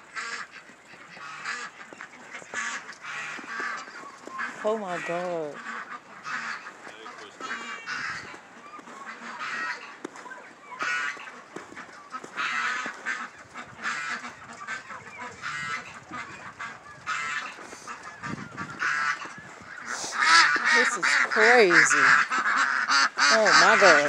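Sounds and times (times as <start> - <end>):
fowl calling: 0.0 - 24.0.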